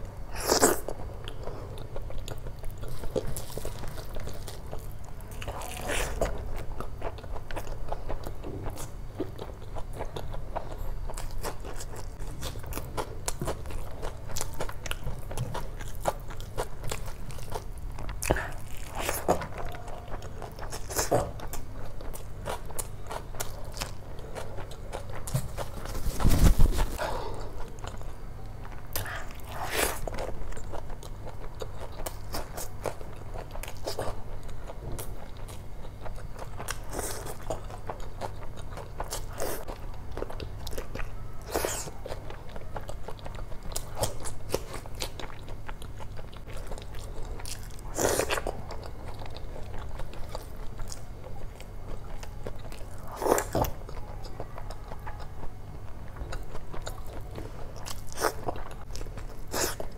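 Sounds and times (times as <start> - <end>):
person chewing: 0.3 - 59.9.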